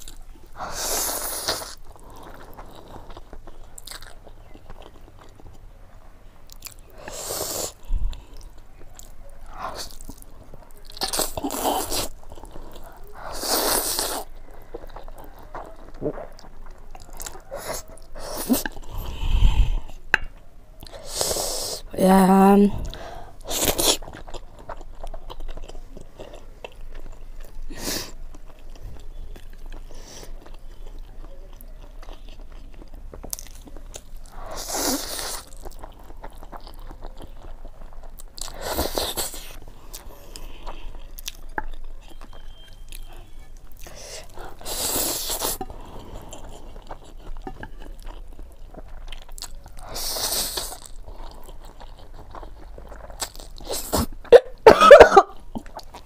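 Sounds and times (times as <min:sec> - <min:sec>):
person chewing noodles: 0:00.0 - 0:56.0.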